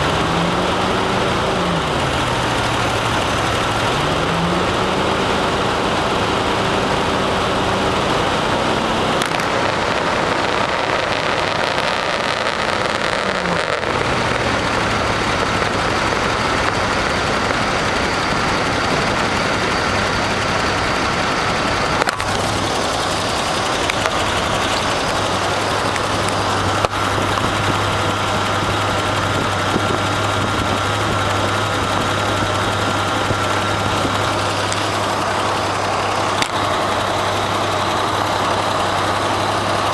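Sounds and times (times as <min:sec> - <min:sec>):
big engine running: 0:00.0 - 0:39.9.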